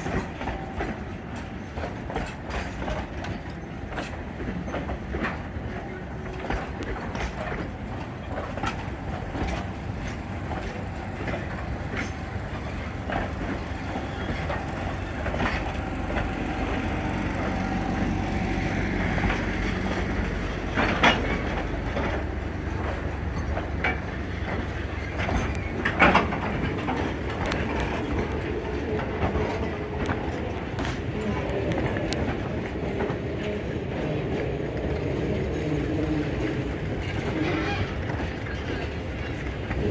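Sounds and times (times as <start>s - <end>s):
train rumbling: 0.0s - 39.9s
wheels clicking over rail joints: 0.0s - 39.9s.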